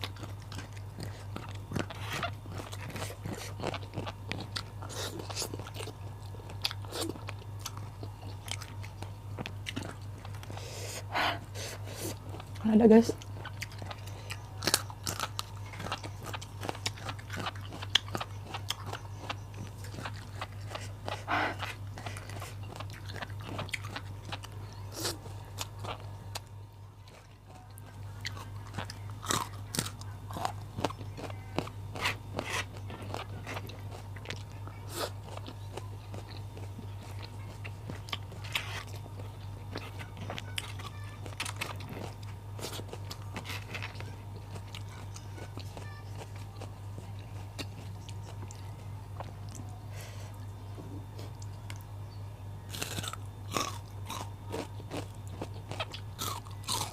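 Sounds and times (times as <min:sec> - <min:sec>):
chewing and crunching vegetables: 0:00.0 - 0:56.9.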